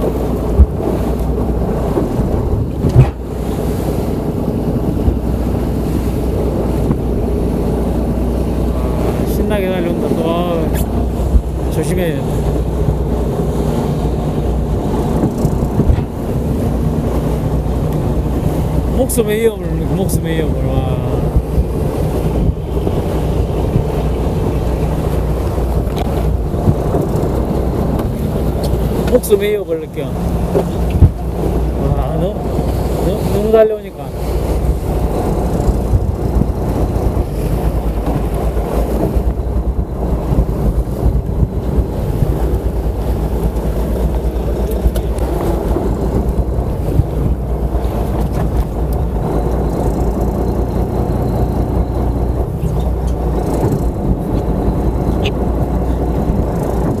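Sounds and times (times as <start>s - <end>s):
boat engine rumble: 0.0s - 57.0s
choppy waves: 0.0s - 57.0s
rough water rushing: 0.0s - 57.0s
wind buffeting microphone: 0.0s - 57.0s.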